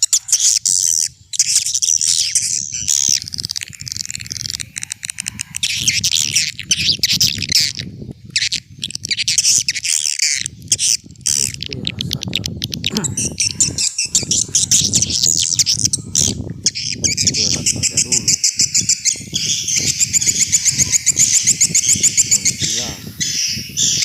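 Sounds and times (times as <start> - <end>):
swiftlets twittering and chirping: 0.0 - 24.0.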